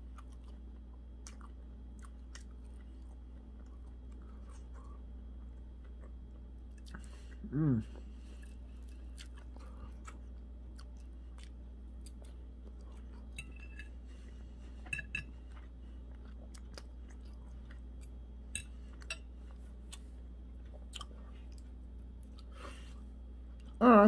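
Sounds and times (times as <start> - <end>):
person chewing: 0.0 - 23.8
steady low hum: 0.0 - 24.0.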